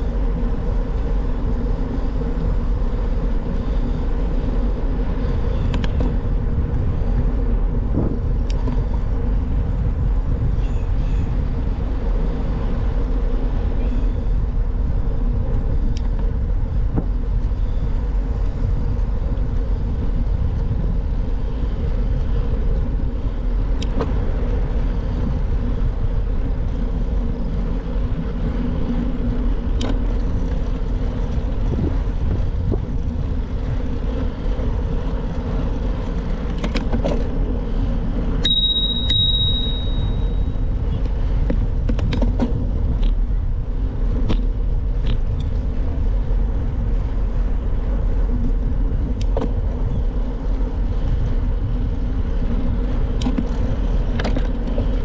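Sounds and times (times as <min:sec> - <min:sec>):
bicycle rumbling on road: 0:00.0 - 0:55.0.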